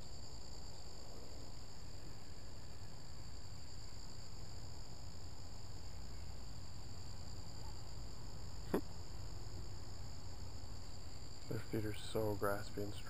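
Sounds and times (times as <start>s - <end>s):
insect chorus trill: 0.0s - 13.0s.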